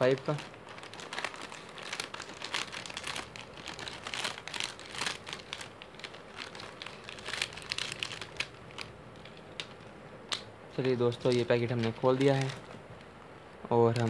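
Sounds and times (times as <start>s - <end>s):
snack packet crinkling: 0.0s - 12.8s.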